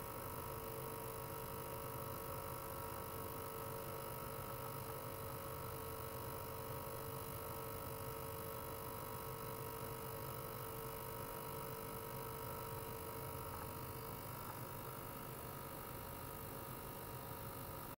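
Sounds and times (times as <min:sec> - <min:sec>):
electrical hum: 0:02.5 - 0:18.0.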